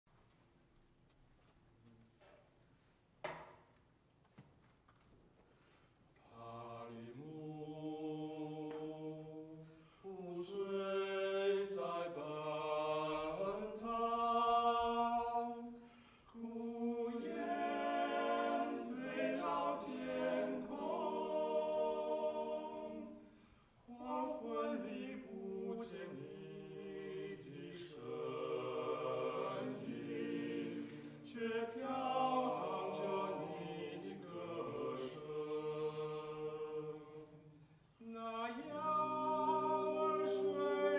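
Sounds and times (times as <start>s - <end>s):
male vocal quartet singing: 6.3s - 37.4s, 38.0s - 40.9s.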